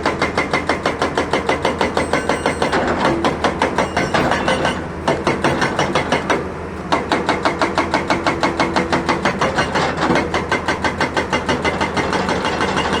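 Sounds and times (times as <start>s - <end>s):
excavator engine running: 0.0s - 13.0s
hydraulic breaker hammering: 0.0s - 13.0s.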